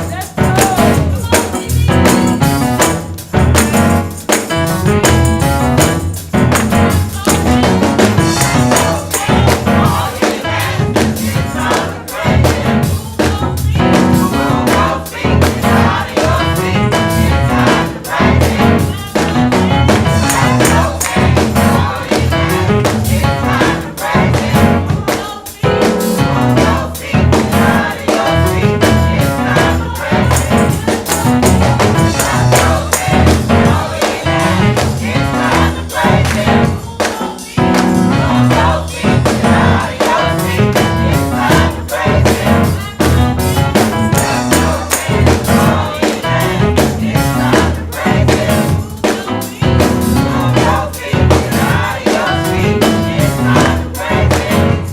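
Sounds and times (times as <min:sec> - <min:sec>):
band with percussive beat: 0:00.0 - 0:54.9
gospel singers: 0:00.0 - 0:54.9.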